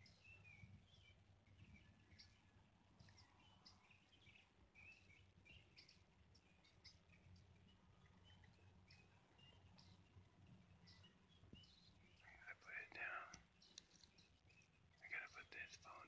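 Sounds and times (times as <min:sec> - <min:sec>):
faint low hum: 0:00.0 - 0:16.0
small songbirds chirping: 0:00.0 - 0:16.0.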